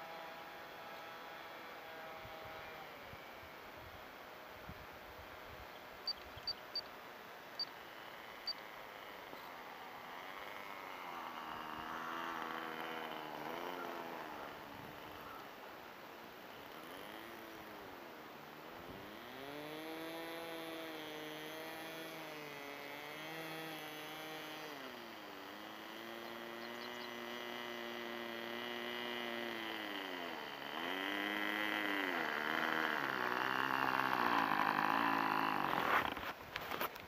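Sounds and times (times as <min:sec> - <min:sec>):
model plane engine running: 0:00.0 - 0:03.3, 0:08.0 - 0:15.6, 0:16.5 - 0:36.4.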